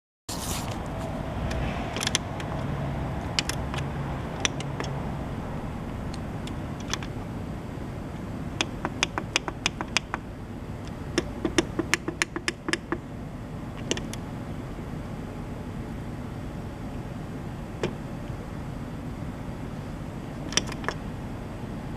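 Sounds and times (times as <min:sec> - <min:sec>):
steady background noise: 0:00.3 - 0:21.9.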